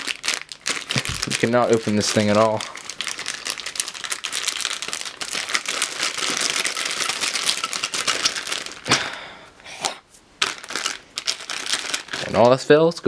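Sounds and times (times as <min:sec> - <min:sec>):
packaging crinkling: 0:00.0 - 0:09.1, 0:10.4 - 0:12.6.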